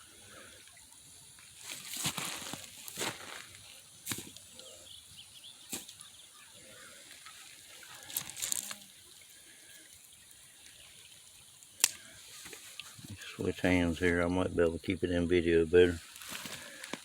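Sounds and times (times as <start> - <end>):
creek water trickling: 0.0 - 17.0.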